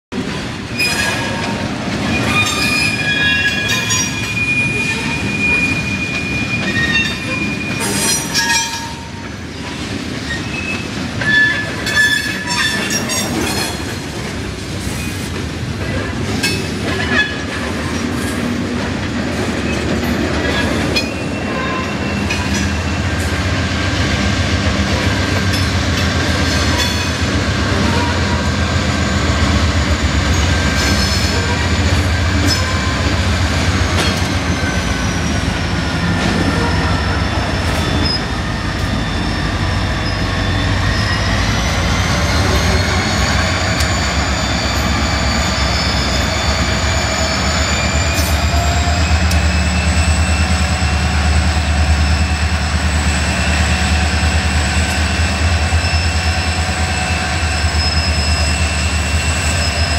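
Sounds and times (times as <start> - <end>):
diesel locomotive running: 0.1 - 59.9
steel wheels squealing: 0.7 - 14.1, 16.0 - 23.6, 24.9 - 59.9.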